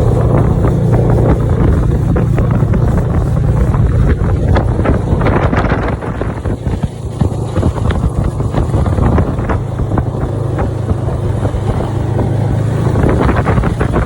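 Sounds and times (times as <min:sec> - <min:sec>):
snowmobile engine running: 0:00.0 - 0:14.0
wind buffeting microphone: 0:00.0 - 0:14.0.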